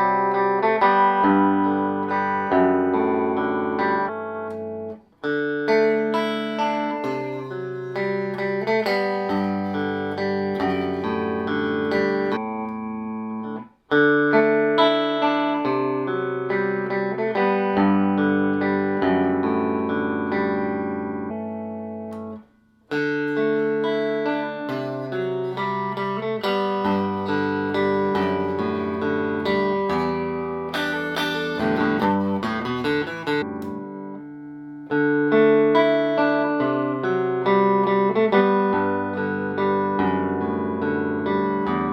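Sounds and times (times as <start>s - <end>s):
clean electric guitar chords: 0.0s - 41.9s.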